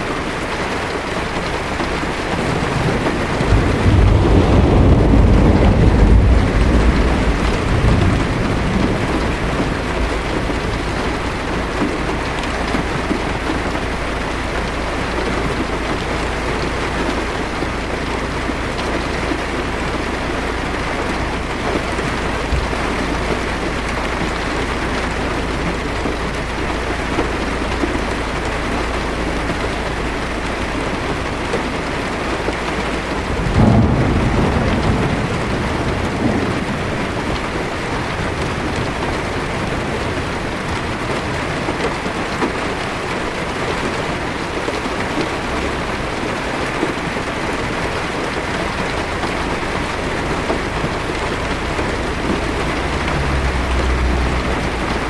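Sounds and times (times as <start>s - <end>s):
heavy rain on car windshield: 0.0s - 55.0s
thunder rumbling: 0.2s - 55.0s.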